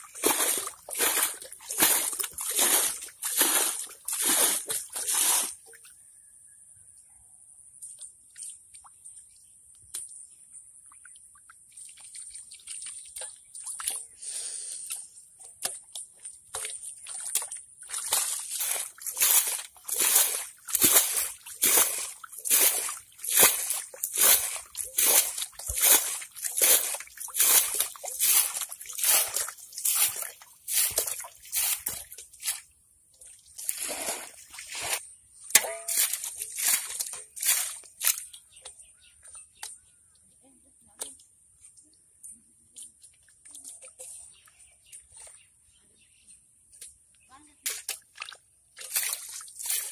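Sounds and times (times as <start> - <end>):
muddy water sloshing and splashing: 0.0 - 6.0, 7.9 - 14.2, 14.8 - 45.7, 47.6 - 49.9.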